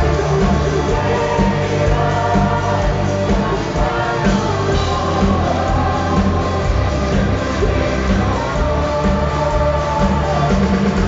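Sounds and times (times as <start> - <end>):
live rock band playing: 0.0 - 11.0
man singing: 0.0 - 11.0.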